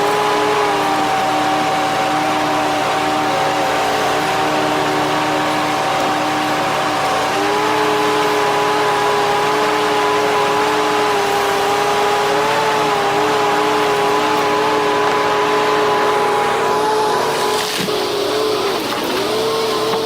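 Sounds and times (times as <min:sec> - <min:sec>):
tree-cutting machine engine running: 0:00.0 - 0:20.0.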